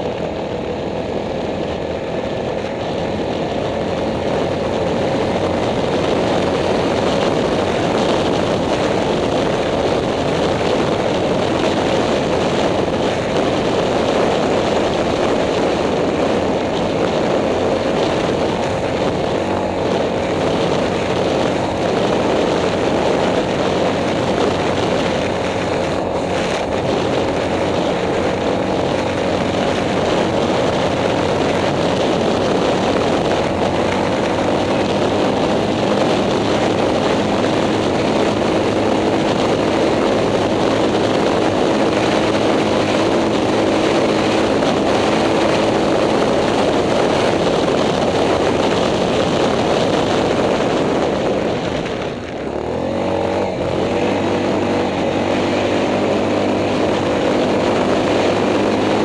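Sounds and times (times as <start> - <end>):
atv engine running steadily: 0.0 - 59.0.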